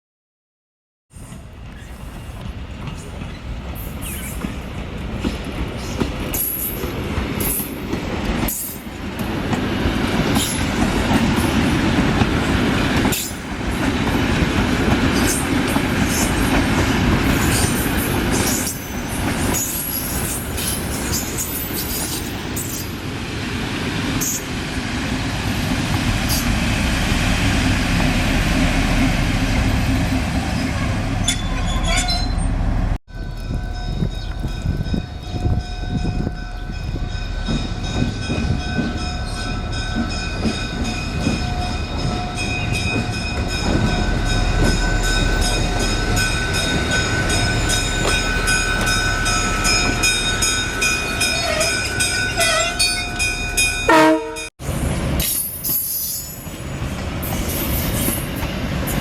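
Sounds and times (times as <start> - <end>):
train rumbling on rails: 1.1 - 59.0.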